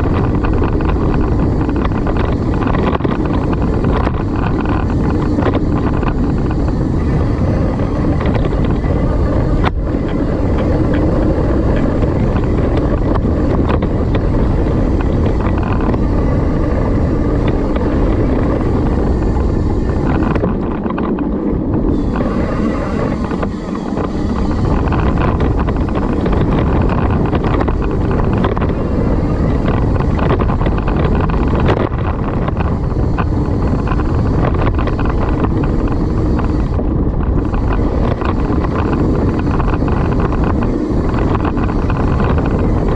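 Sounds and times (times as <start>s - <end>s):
bike rattling: 0.0s - 42.9s
tyres rolling over dirt: 0.0s - 42.9s
wind rushing over microphone: 0.0s - 42.9s.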